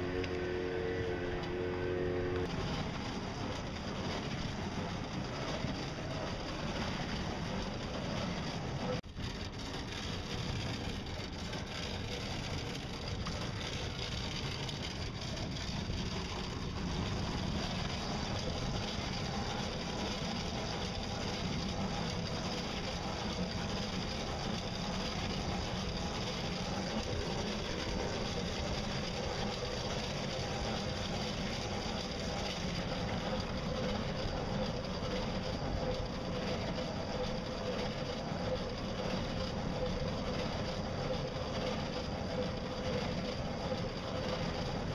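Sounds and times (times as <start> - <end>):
faint hum: 0.0 - 44.9.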